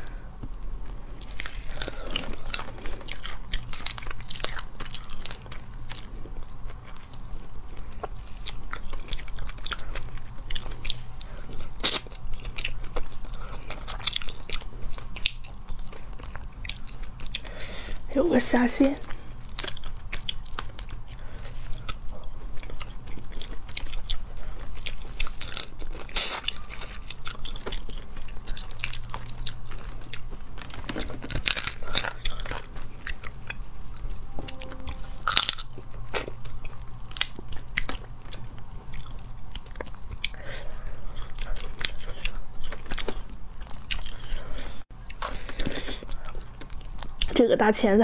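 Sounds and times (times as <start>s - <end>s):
low steady hum: 0.0s - 48.0s
chewing: 0.8s - 18.1s, 18.9s - 47.5s.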